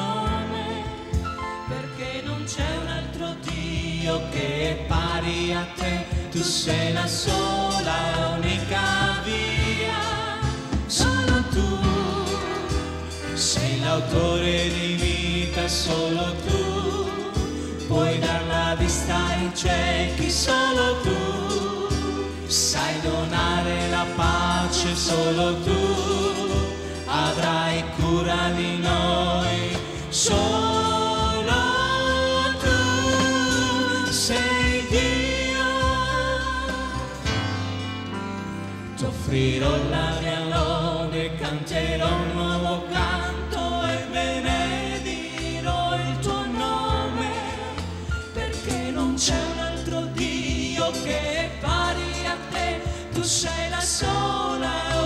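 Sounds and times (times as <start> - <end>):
people singing with vibrato: 0.0 - 38.2, 38.8 - 55.0
bass line: 0.0 - 55.0
drums: 0.0 - 55.0.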